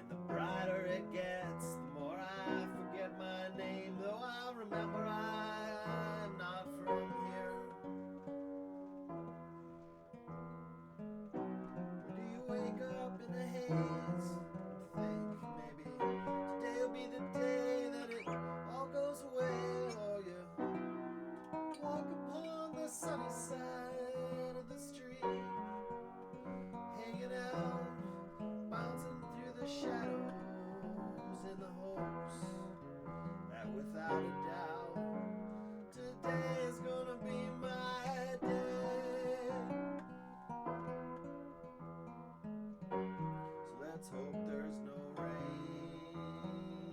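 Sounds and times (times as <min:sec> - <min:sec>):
acoustic guitar plucking a tune: 0:00.0 - 0:46.9.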